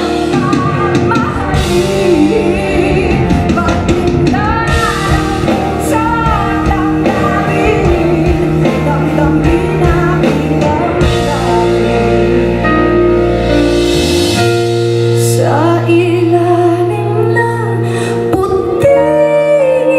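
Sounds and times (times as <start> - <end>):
woman singing: 0.0 - 13.2, 15.2 - 19.9
drums: 0.0 - 19.9
rock band playing: 0.0 - 19.9.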